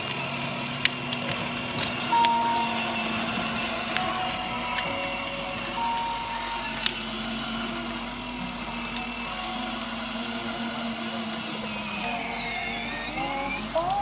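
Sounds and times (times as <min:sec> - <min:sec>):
toy car electric motors: 0:00.0 - 0:14.0.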